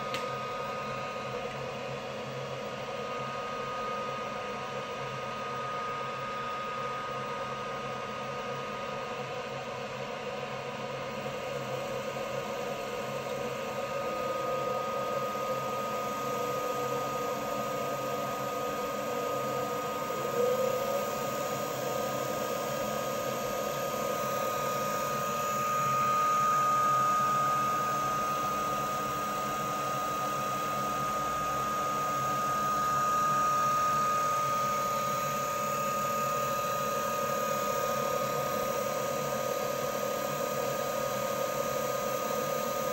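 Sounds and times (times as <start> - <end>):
laboratory mixer whining: 0.0 - 42.9.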